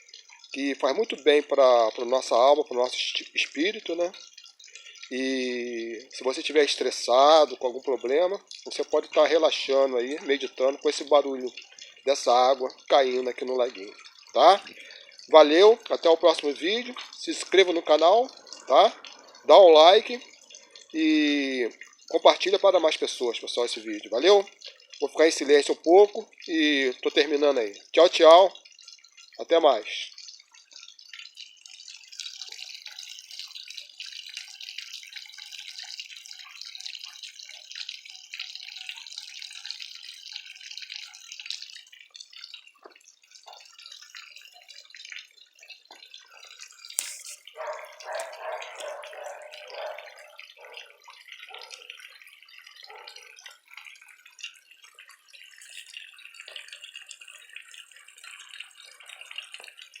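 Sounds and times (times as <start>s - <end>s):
fountain water splashing into pond: 0.0s - 60.0s.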